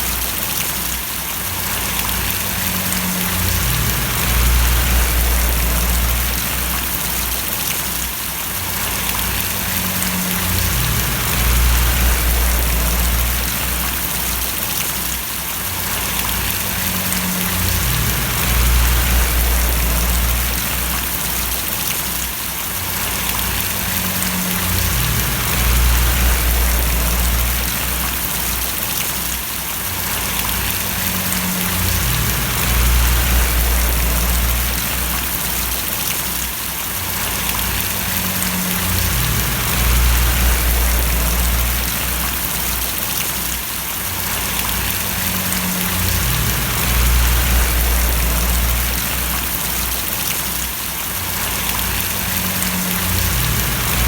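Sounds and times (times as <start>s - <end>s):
steady rain falling: 0.0s - 54.0s
low rumble: 1.8s - 7.7s, 8.8s - 14.6s, 15.9s - 21.9s, 23.0s - 28.8s, 30.2s - 36.1s, 37.2s - 43.0s, 44.4s - 50.3s, 51.4s - 54.0s.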